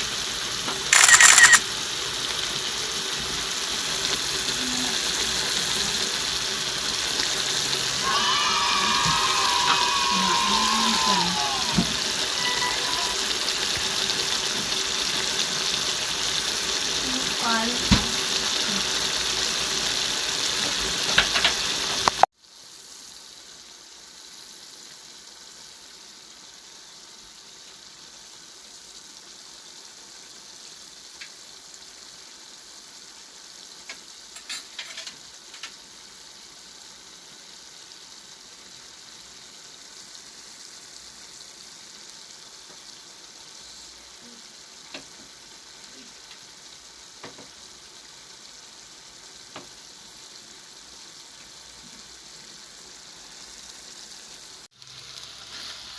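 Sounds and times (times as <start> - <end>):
food sizzling in a frying pan: 0.0 - 55.9.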